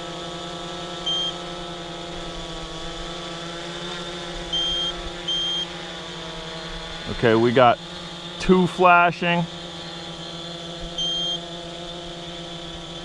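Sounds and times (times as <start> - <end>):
drone motors humming: 0.0 - 13.0.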